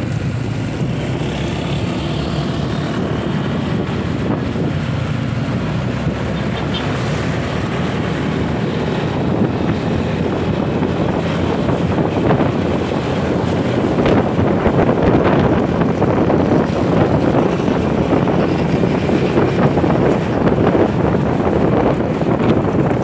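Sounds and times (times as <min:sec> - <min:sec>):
motorbike engines in traffic: 0:00.0 - 0:23.0
wind buffeting microphone: 0:00.0 - 0:23.0.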